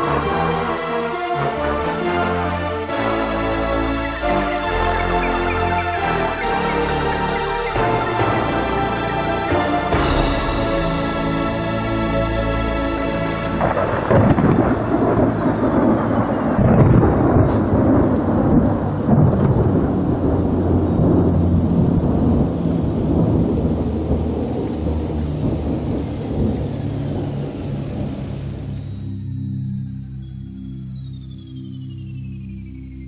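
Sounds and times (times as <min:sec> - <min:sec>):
thunder rumbling: 0:00.0 - 0:29.1
rain: 0:00.0 - 0:30.8.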